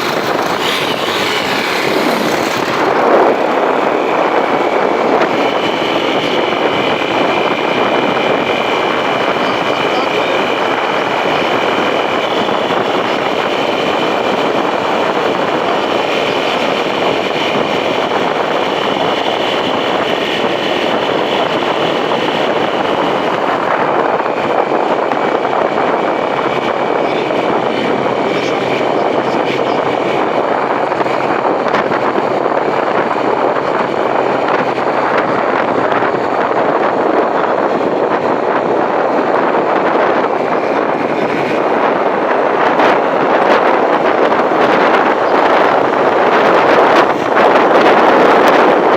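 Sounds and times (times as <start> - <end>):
wind rushing on microphone: 0.0 - 48.9.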